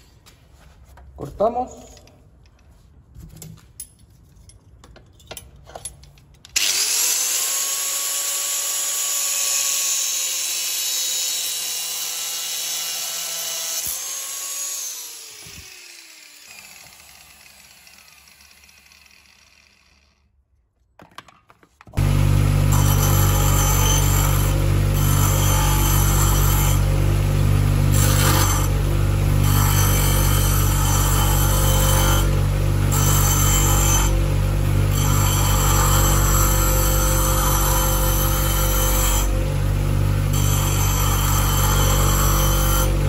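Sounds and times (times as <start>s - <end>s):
bench grinder hum: 6.6s - 20.2s, 22.0s - 43.0s
angle grinder cutting metal rod: 6.6s - 20.3s, 22.0s - 43.0s
grinder spinning down: 6.6s - 20.3s, 22.0s - 43.0s.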